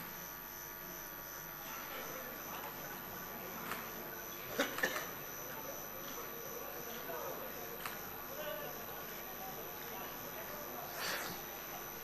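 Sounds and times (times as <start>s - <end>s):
faint indistinct background sounds: 0.0s - 12.0s.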